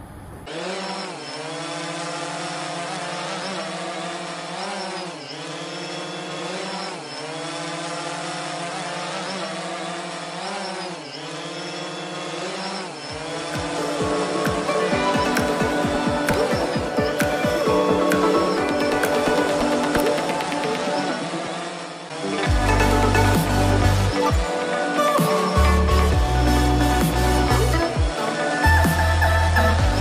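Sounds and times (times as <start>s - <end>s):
drone propellers buzzing: 0.0s - 30.0s.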